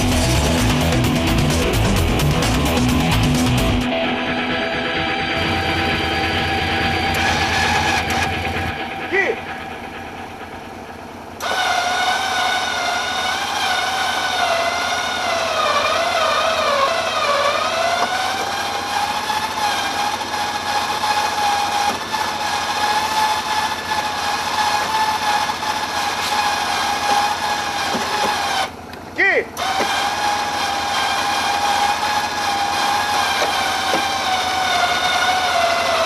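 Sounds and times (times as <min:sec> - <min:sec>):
off-road vehicle engine whining: 0:00.0 - 0:36.0.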